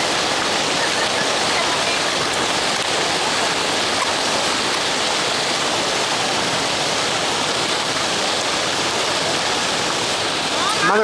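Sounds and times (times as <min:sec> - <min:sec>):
water fountain splashing: 0:00.0 - 0:11.0.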